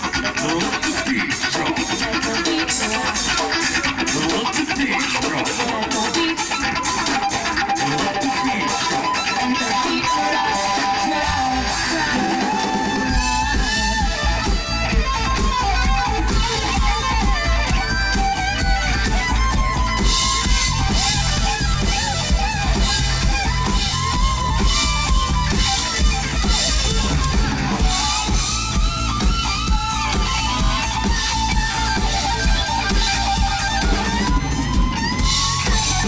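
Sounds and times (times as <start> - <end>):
heavy bass and drum beat: 0.0 - 36.0
live band guitar instrumental: 0.0 - 36.0.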